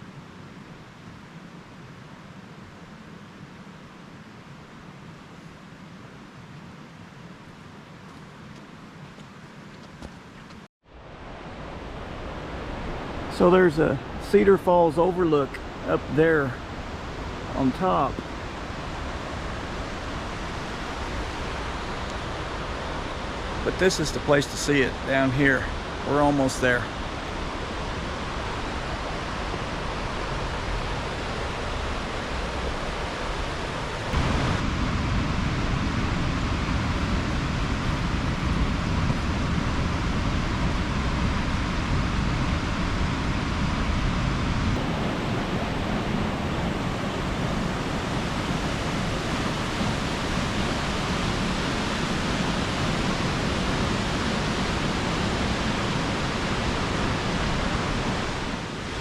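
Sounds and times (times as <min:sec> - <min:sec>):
waterfall roaring onto rocks: 0:11.0 - 0:59.0.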